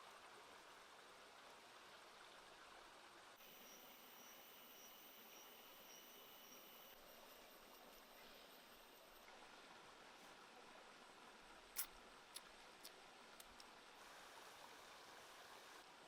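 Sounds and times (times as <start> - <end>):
faint steady hiss: 0.0 - 16.0
faint high-pitched pulsing tones: 0.1 - 16.0.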